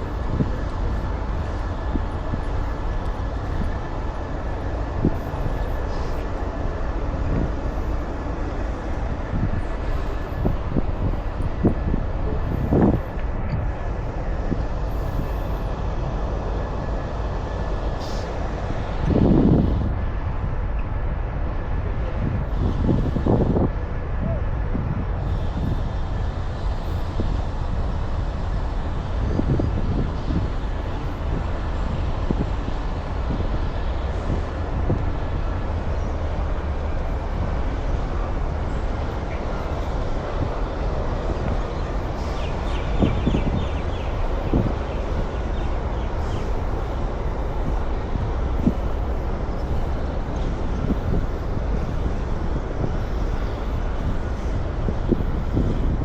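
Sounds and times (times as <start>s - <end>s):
low traffic rumble: 0.0s - 56.0s.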